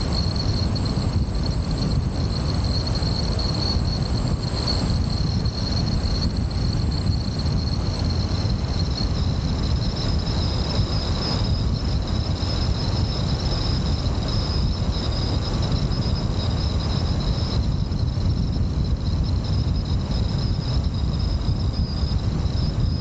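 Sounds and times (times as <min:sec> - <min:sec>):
high-pitched whine: 0:00.0 - 0:23.0
wind buffeting microphone: 0:00.0 - 0:23.0.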